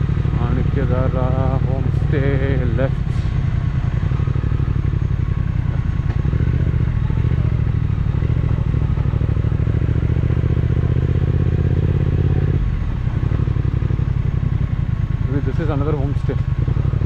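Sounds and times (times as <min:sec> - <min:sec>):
motorcycle engine running at low revs: 0:00.0 - 0:17.0.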